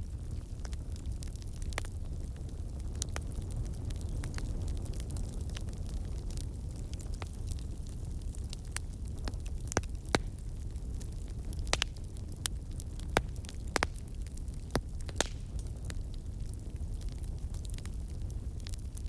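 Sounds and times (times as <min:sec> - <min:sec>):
fire crackling: 0:00.0 - 0:19.0.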